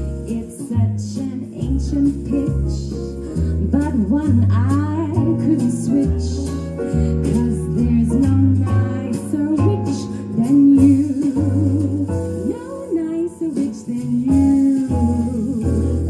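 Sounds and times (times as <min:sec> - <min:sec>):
instrumental accompaniment with bass: 0:00.0 - 0:16.0
woman singing into microphone: 0:00.3 - 0:06.5, 0:07.2 - 0:16.0.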